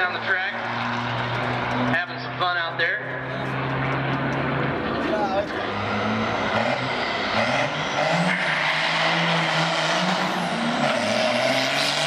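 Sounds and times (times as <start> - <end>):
engines racing at full throttle: 0.0 - 12.0.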